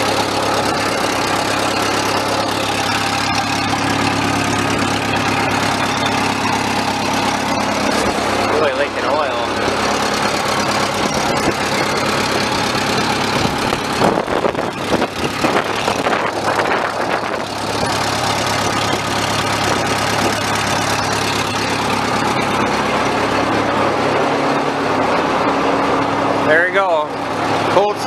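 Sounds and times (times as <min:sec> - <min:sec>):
gas engine idling: 0:00.0 - 0:28.0.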